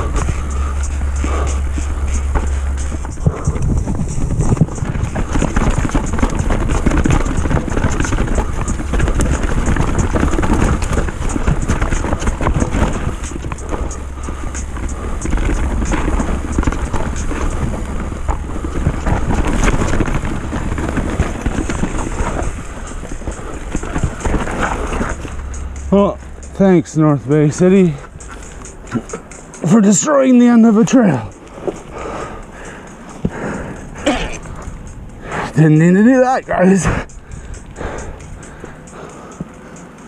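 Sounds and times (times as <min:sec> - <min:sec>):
bike rattles and clicks: 0:00.0 - 0:40.0
bike tyres rolling over dirt: 0:00.0 - 0:40.0
wind buffeting microphone: 0:00.0 - 0:40.0.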